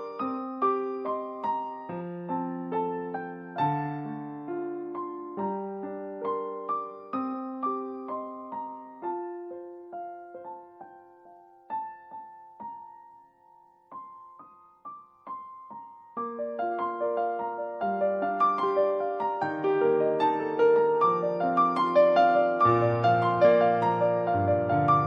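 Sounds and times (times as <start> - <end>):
soft piano piece: 0.0 - 25.0.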